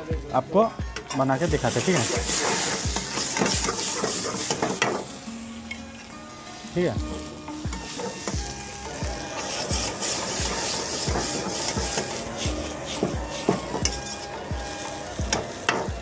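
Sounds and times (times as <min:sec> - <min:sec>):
vegetables sizzling in a wok: 0:00.0 - 0:16.0
gas flame roaring: 0:00.9 - 0:16.0
metal ladle scraping wok: 0:01.0 - 0:06.2, 0:07.5 - 0:08.5, 0:09.2 - 0:15.9.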